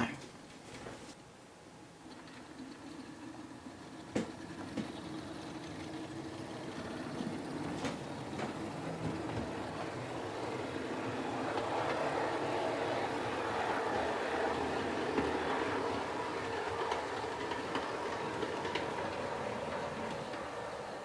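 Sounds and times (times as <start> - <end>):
model train motor rumble: 2.0 - 21.0.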